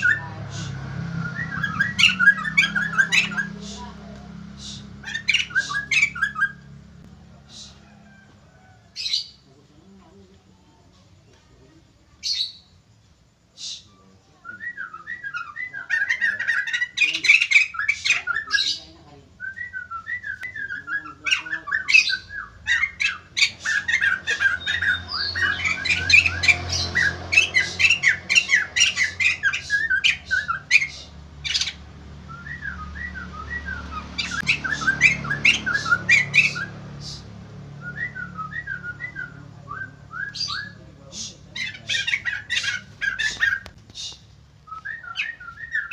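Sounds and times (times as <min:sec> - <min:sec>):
birds chattering and calling: 0:00.0 - 0:45.9.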